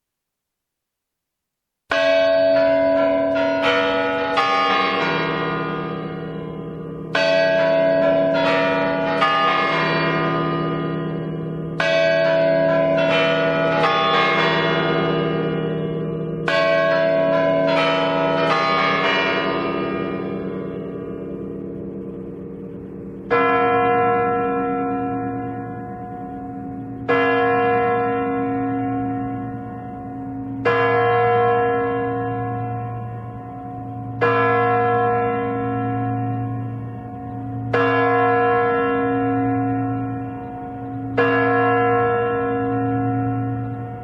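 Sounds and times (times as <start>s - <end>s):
church bells ringing: 1.9s - 44.0s.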